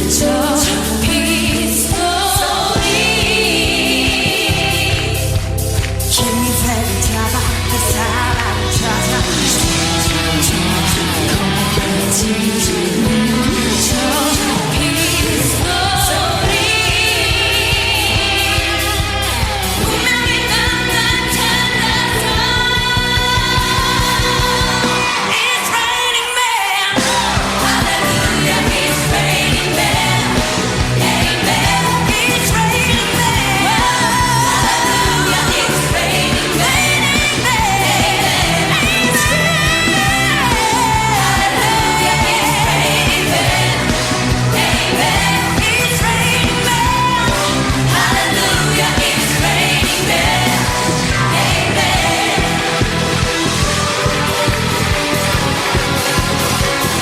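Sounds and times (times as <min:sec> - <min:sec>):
band with steady drum beat: 0:00.0 - 0:25.5, 0:27.0 - 0:57.0
female vocal group singing: 0:00.0 - 0:53.7.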